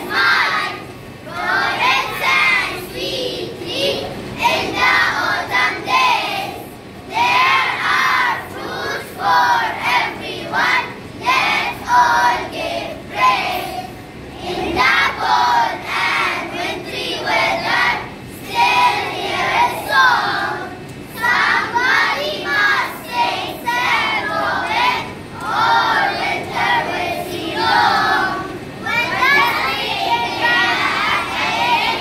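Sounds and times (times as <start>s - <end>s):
children singing in unison: 0.0s - 32.0s.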